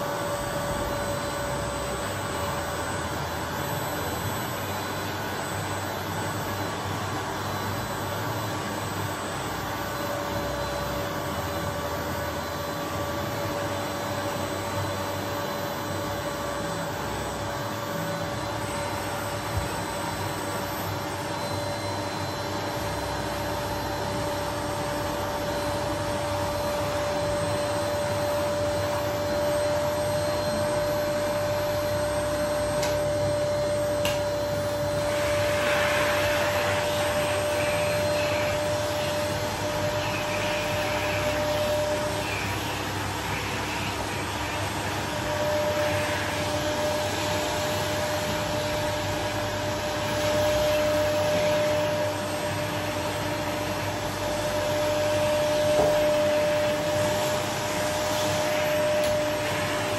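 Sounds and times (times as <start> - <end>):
vacuum cleaner running: 0.0 - 59.9
vacuum nozzle on upholstery: 0.0 - 59.9.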